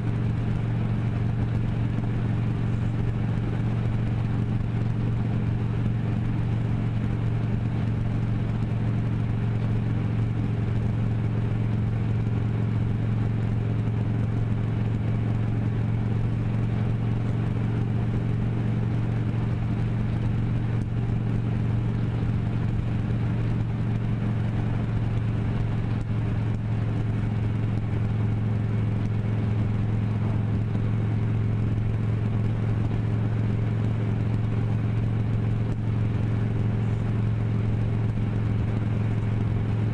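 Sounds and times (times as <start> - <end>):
vehicle engine humming steadily: 0.0 - 39.9.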